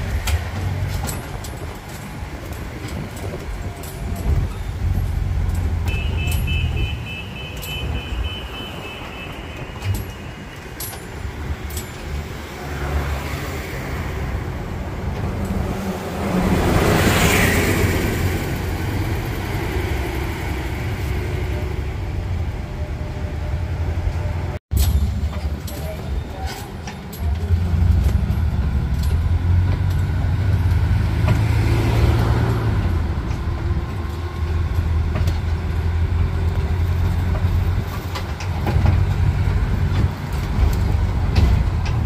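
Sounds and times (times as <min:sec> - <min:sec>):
carriages rolling and rattling: 0:00.0 - 0:42.0.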